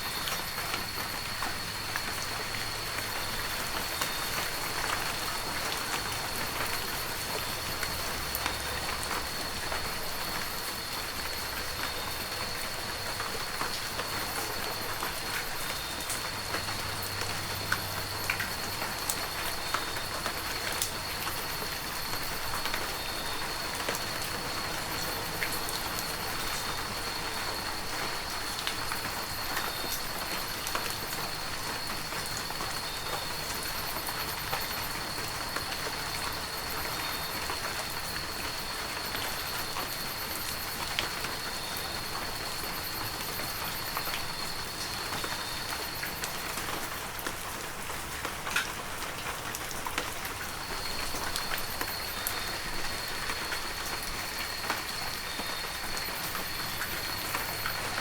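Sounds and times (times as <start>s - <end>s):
heavy rain hissing: 0.0s - 58.0s
raindrops ticking: 0.1s - 58.0s.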